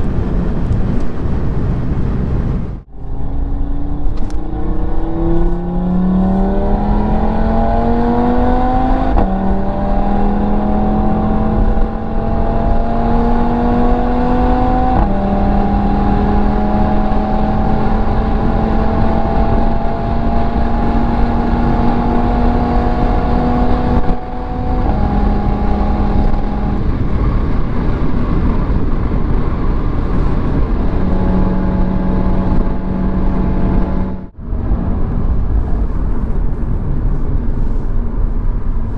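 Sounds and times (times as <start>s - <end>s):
road and wind noise: 0.0s - 38.9s
sports car engine accelerating: 2.8s - 38.9s.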